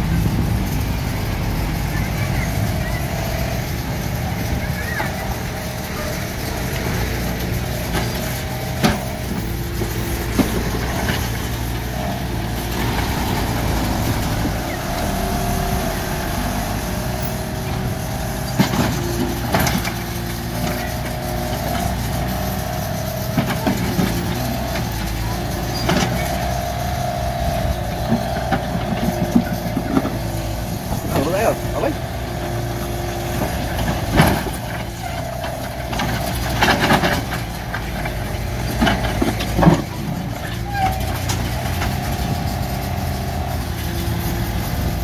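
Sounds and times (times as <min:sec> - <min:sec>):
wavering whine: 0:00.0 - 0:36.2
excavator diesel engine running: 0:00.0 - 0:45.0.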